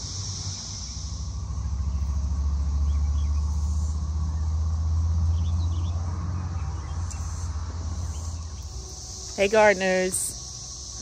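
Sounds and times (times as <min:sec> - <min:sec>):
cicadas chorus: 0:00.0 - 0:11.0.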